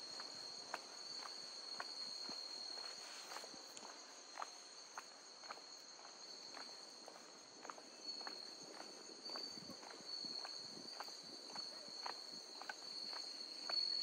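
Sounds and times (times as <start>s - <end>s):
insects chirring: 0.0s - 14.0s
footsteps walking: 0.7s - 13.8s.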